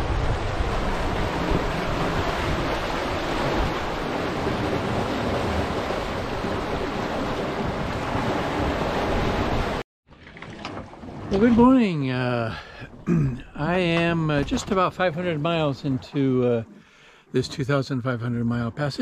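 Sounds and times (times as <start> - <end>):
water splashing along hull: 0.0 - 19.0
wind: 0.0 - 19.0.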